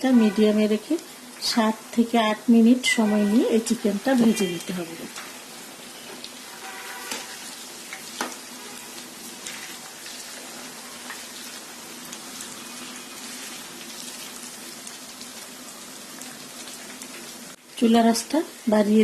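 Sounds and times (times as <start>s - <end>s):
chicken deep-frying in oil: 0.1s - 19.0s.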